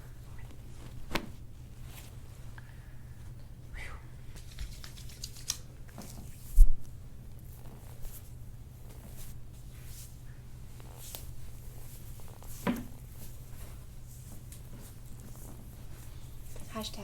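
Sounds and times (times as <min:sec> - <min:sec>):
soft rustling of clothing: 0:00.0 - 0:03.6, 0:04.3 - 0:17.0.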